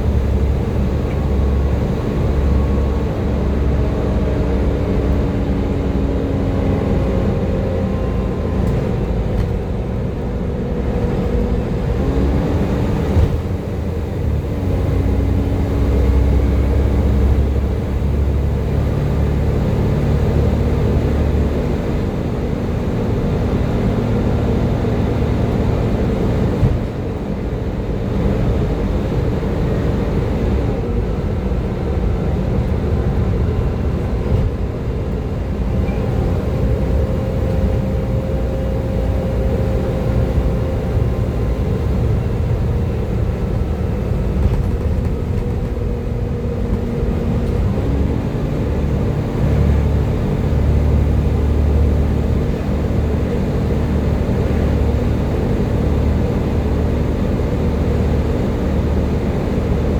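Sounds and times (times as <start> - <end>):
bus diesel engine whine and rumble: 0.0 - 59.9.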